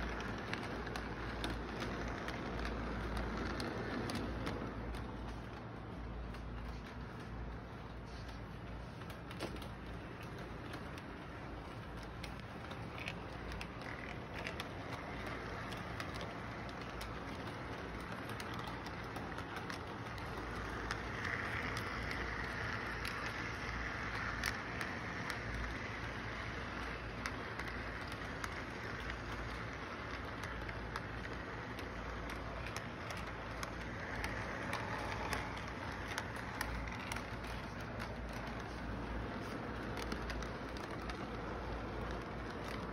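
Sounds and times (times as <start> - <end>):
model train cars rolling: 0.0 - 42.9
wheels clicking on track: 0.0 - 42.9.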